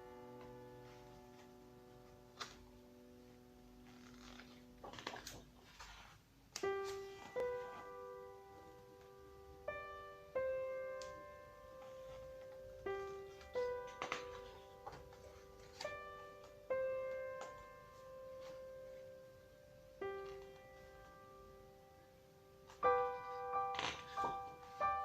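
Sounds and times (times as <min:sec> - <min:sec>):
slow piano melody: 0:00.0 - 0:25.0.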